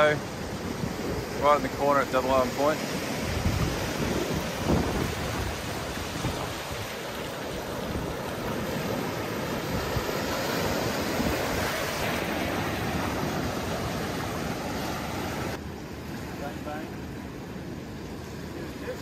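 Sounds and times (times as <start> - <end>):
small waves washing over sand: 0.0 - 19.0.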